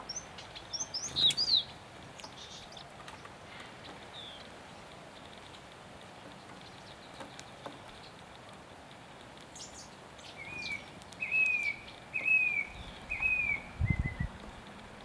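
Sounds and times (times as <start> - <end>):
songbird calling: 0.0 - 8.6, 9.5 - 14.8.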